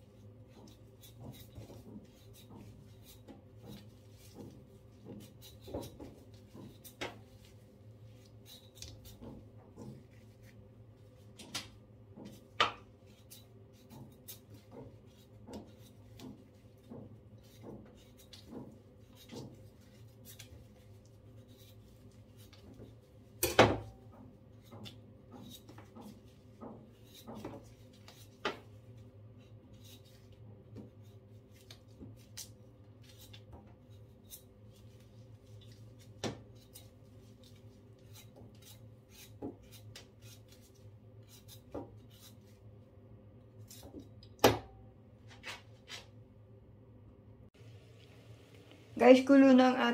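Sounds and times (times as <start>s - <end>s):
knife scraping taro skin: 0.1s - 11.4s, 12.2s - 23.4s, 24.4s - 42.7s, 43.6s - 44.1s.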